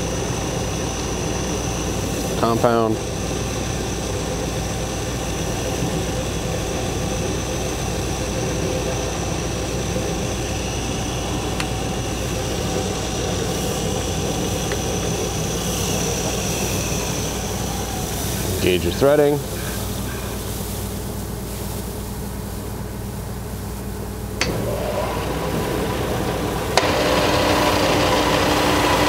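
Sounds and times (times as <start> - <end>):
lathe running: 0.0 - 21.4, 24.2 - 29.0.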